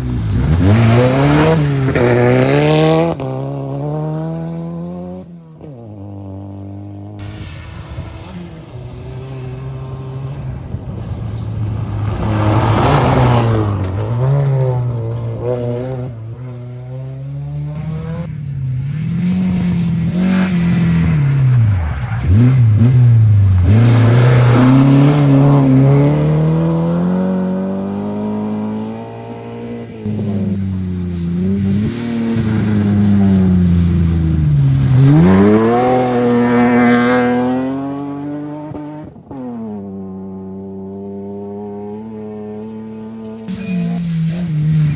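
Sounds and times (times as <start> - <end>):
rally car engine accelerating: 0.0 - 44.9.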